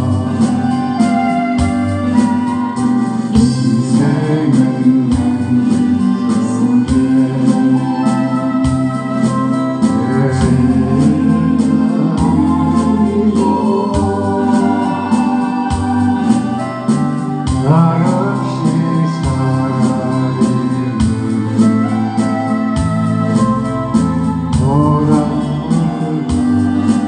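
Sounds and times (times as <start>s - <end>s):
electronic organ chords over a beat: 0.0s - 27.0s.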